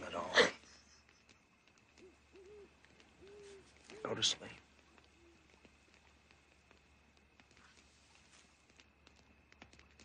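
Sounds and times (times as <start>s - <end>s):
faint ticks: 0.6s - 10.0s.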